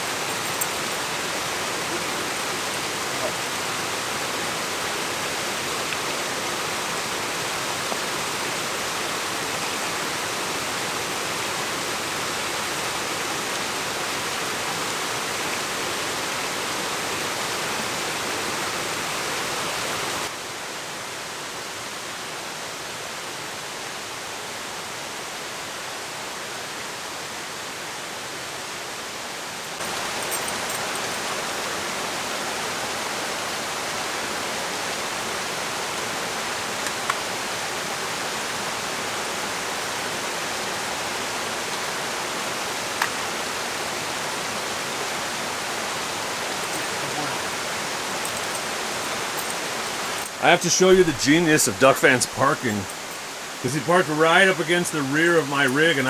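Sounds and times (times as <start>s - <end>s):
waterfall rushing: 0.0s - 20.3s, 29.8s - 56.0s.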